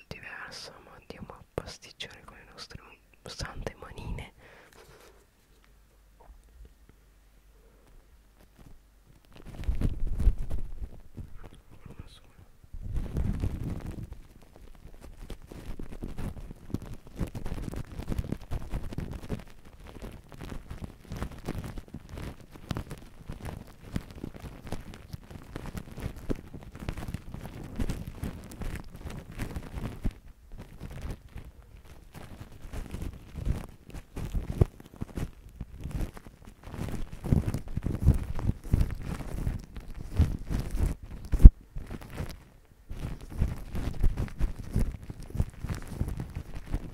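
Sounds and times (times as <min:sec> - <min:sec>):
foam crackling and popping: 0:07.7 - 0:46.9
cling film crinkling: 0:07.8 - 0:46.9.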